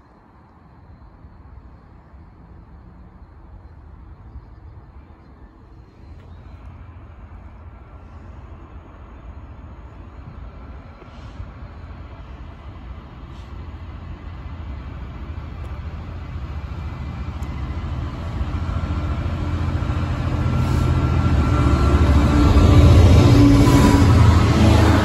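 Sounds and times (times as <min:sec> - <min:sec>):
diesel locomotive passing: 0:00.3 - 0:25.0.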